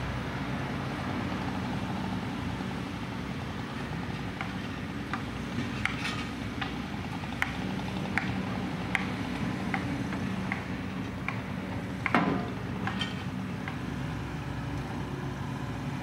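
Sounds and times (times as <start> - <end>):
diesel engine under hydraulic load: 0.0 - 16.0.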